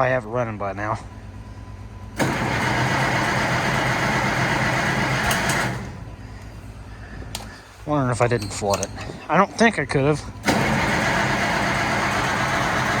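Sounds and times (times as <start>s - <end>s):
low engine hum: 0.0s - 13.0s
tractor engine cranking: 1.0s - 13.0s.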